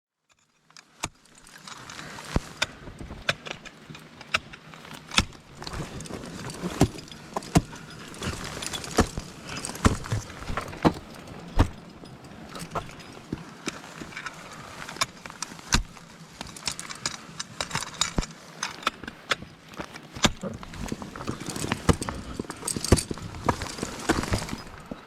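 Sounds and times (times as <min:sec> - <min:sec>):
metal climbing gear clinking: 0:00.3 - 0:25.0
rustle of footsteps in snow: 0:01.2 - 0:03.2, 0:04.7 - 0:25.0.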